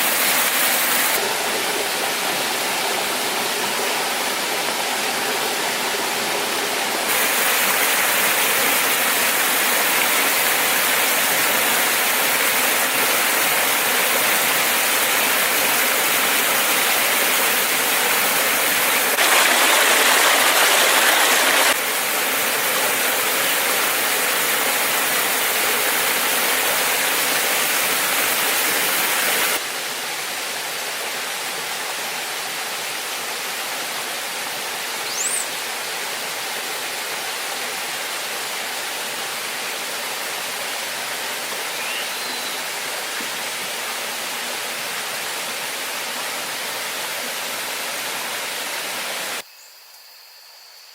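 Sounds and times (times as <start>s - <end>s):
waterfall rushing: 0.0s - 49.4s.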